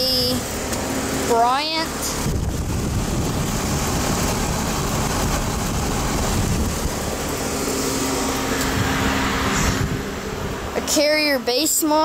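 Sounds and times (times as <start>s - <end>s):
air conditioner unit running: 0.0s - 12.0s.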